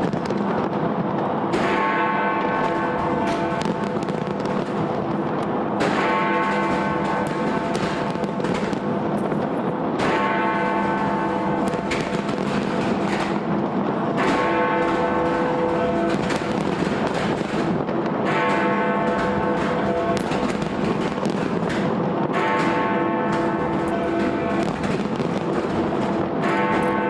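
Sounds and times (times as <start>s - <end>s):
fireworks banging and crackling: 0.0s - 27.0s
large bell striking: 1.5s - 27.0s.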